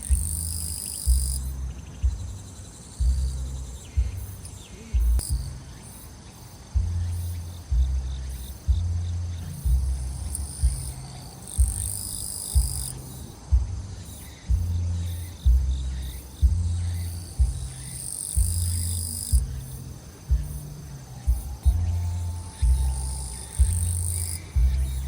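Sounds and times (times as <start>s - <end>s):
thumping bass music: 0.0s - 5.9s, 6.7s - 25.0s
crickets chirring: 0.0s - 25.0s.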